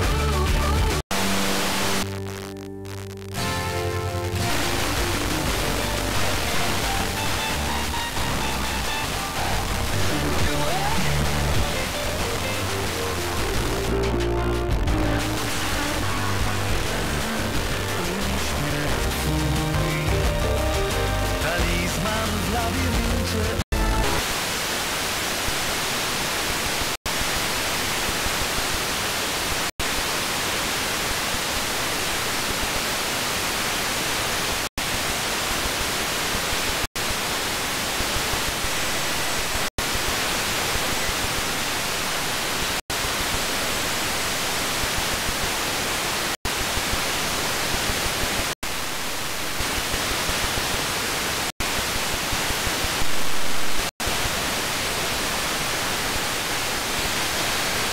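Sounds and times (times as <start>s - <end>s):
radio static hiss: 1.1s - 20.1s, 21.4s - 57.9s.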